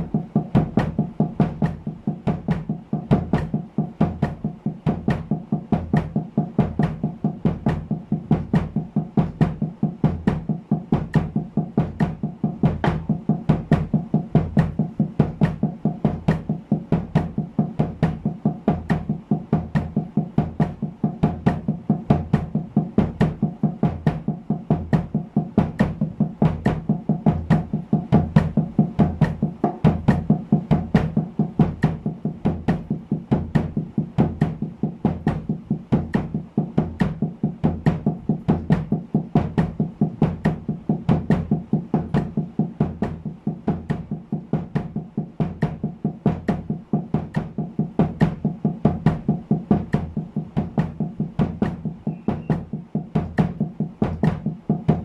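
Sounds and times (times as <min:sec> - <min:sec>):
damped snare drum strokes: 0:00.0 - 0:55.0.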